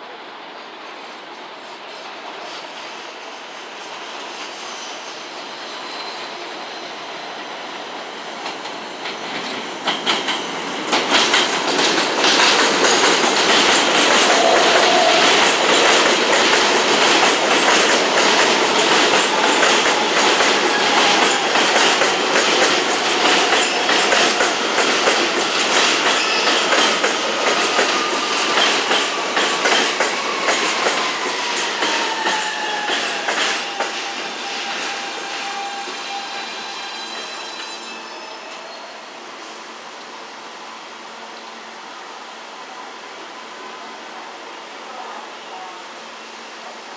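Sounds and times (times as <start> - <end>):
subway train wheels clattering: 0.0 - 46.9.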